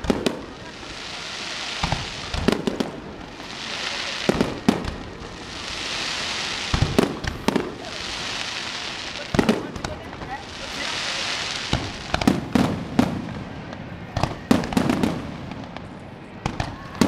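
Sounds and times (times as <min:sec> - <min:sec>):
crackling firework hiss: 0:00.0 - 0:17.0
firework shells bursting: 0:00.0 - 0:17.0.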